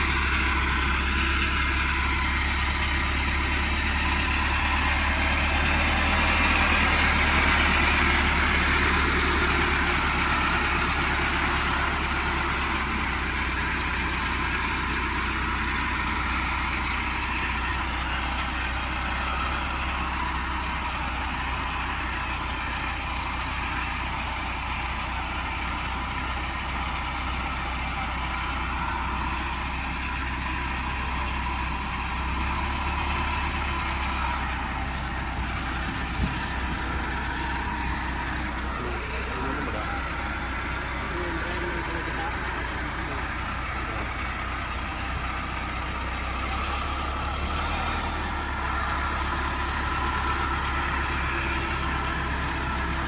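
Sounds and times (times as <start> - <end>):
large engine humming: 0.0 - 53.0.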